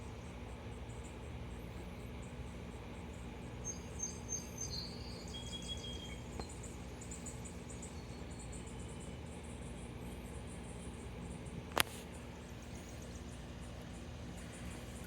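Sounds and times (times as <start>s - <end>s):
insects chirping: 0.0s - 15.0s
low background noise: 0.0s - 15.0s.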